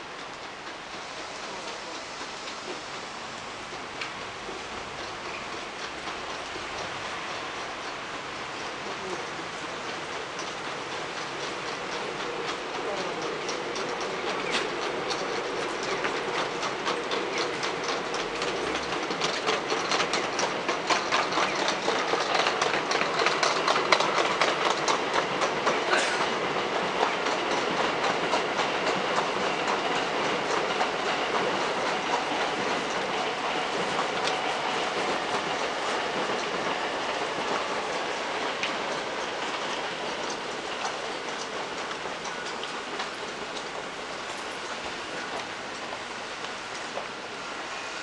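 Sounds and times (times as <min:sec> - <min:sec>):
train running noise: 0:00.0 - 0:48.0
train wheels clattering over rail joints: 0:00.0 - 0:48.0.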